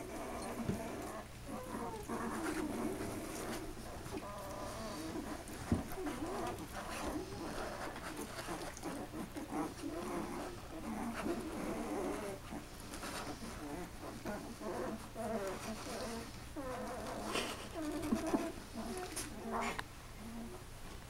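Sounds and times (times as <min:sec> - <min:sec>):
puppies whimpering and squeaking: 0:00.0 - 0:20.5.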